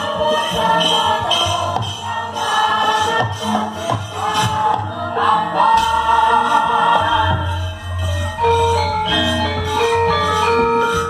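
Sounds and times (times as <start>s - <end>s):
gamelan gongs and metallophones: 0.0s - 11.0s.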